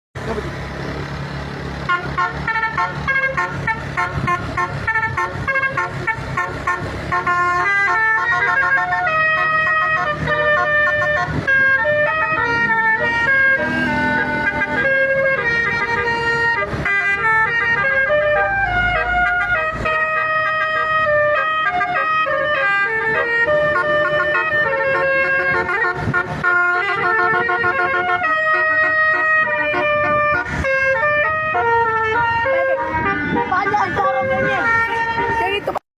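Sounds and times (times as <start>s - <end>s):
multi-tone air horn melody: 1.8s - 35.8s.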